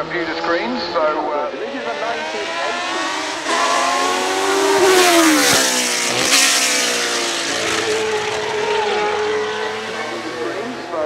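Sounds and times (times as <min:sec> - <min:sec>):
racing car engine passing by: 0:00.0 - 0:11.0.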